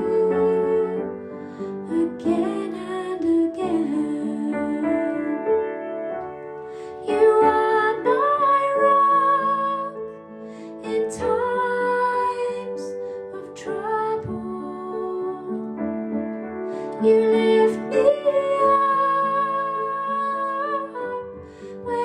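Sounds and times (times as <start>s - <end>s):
woman singing: 0.0s - 5.6s, 6.9s - 15.8s, 16.8s - 22.0s
piano accompaniment: 0.0s - 22.0s.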